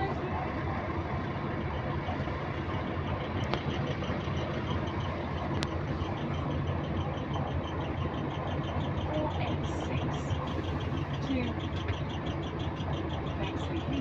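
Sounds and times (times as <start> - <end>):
bus diesel engine running: 0.0 - 14.0
light rhythmic clicking: 0.0 - 14.0.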